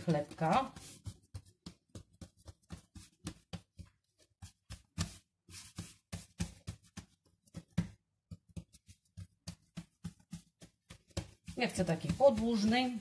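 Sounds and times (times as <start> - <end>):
hands kneading bread dough: 0.0 - 13.0.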